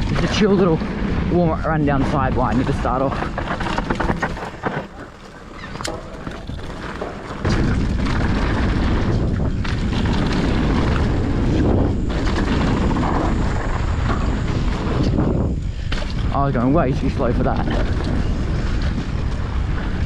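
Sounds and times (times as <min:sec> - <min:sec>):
wind buffeting microphone: 0:00.0 - 0:20.0
bike tyres on dirt trail: 0:02.1 - 0:16.4, 0:17.0 - 0:20.0.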